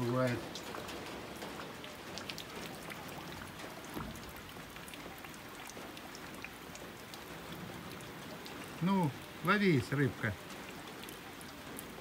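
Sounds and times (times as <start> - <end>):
raindrops ticking: 0.0 - 12.0
steady rain falling: 0.0 - 12.0.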